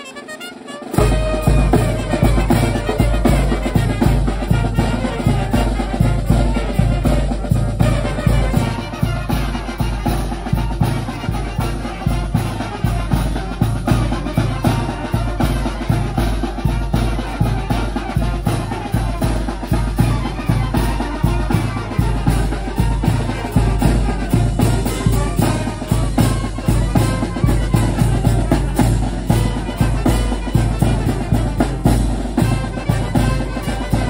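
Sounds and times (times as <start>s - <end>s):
brass band playing: 0.0s - 34.0s
bass drum and snare beat: 0.7s - 34.0s.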